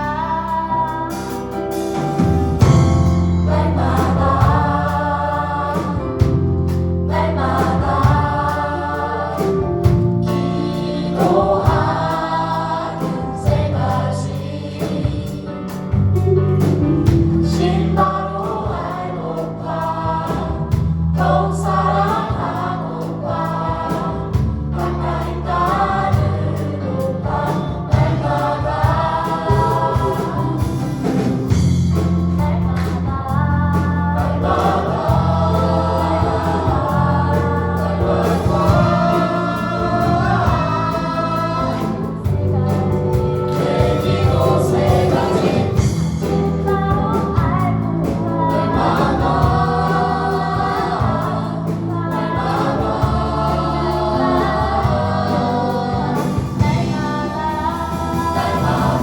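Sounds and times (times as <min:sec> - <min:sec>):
bass notes: 0:00.0 - 0:59.0
choir singing gospel song: 0:00.0 - 0:59.0
steady drum beat: 0:00.9 - 0:59.0.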